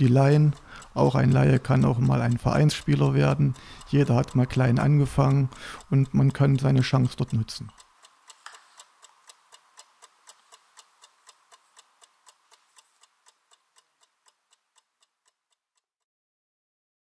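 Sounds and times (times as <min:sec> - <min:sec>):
mechanical chess clock ticking: 0:00.0 - 0:15.8.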